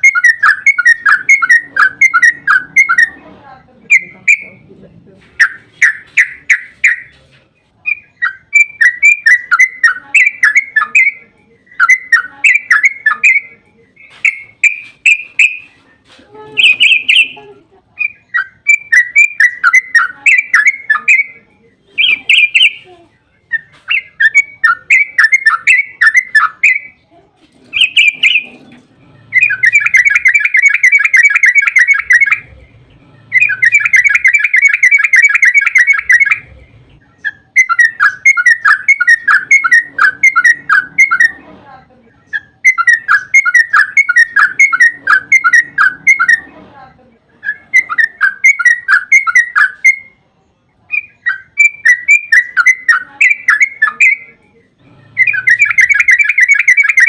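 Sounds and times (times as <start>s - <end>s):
bulbul bubbly chattering song: 0.0s - 3.2s, 3.8s - 4.6s, 5.4s - 7.1s, 7.8s - 15.7s, 16.6s - 27.0s, 27.7s - 41.4s, 42.2s - 46.5s, 47.4s - 50.2s, 50.8s - 54.4s, 55.1s - 57.0s.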